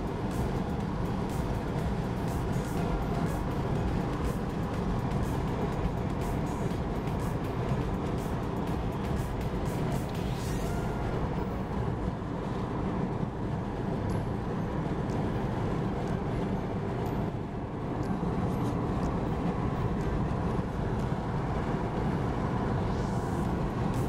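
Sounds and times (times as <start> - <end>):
car road noise: 0.0 - 24.0.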